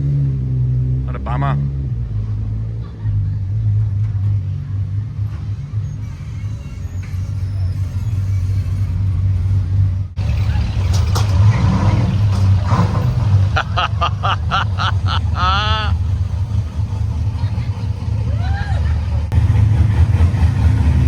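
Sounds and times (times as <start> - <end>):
car engine running low revs: 0.0 - 21.0.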